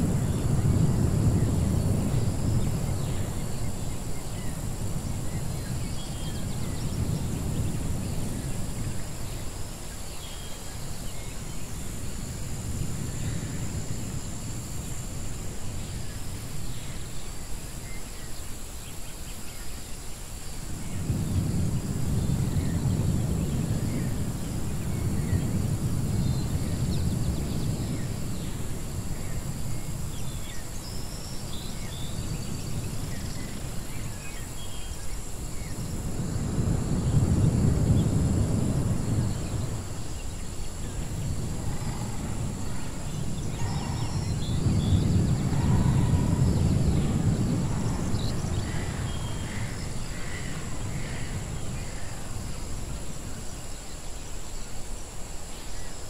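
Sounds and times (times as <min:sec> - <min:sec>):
low wind-like rumble: 0:00.0 - 0:56.0.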